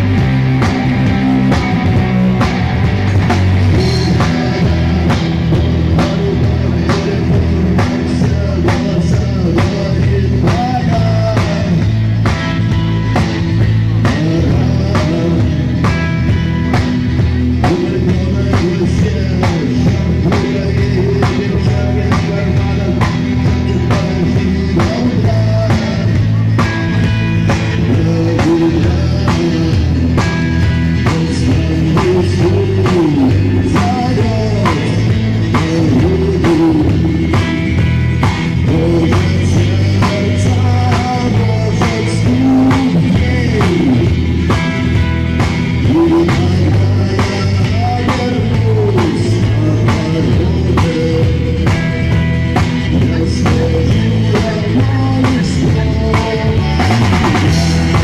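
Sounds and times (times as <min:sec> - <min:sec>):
bass guitar: 0:00.0 - 0:58.0
electric guitar: 0:00.0 - 0:58.0
steady drum beat: 0:00.0 - 0:58.0.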